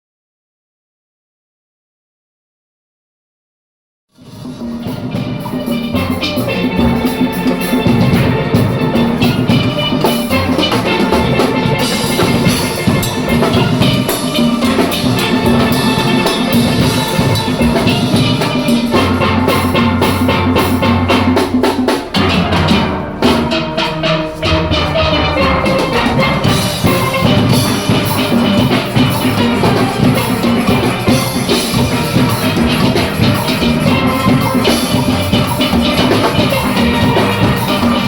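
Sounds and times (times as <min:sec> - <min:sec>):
drum kit and percussion: 0:04.2 - 0:38.0
steelpans playing melody: 0:04.2 - 0:38.0.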